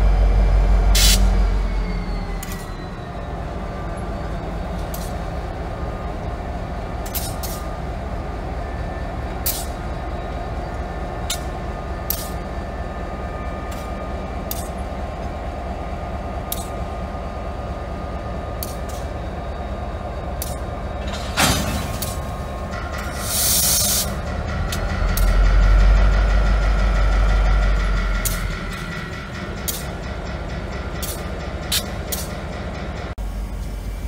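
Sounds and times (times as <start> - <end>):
locomotive diesel engine rumble: 0.0 - 34.0.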